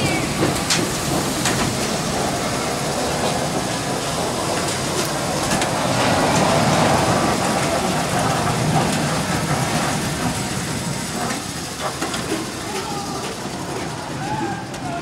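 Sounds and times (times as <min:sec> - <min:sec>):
ride car rumbling along track: 0:00.0 - 0:15.0.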